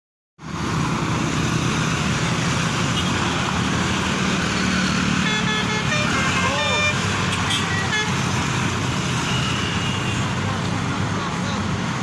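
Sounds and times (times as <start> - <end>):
diesel bus engine running: 0.4 - 12.0
road traffic noise: 0.4 - 12.0.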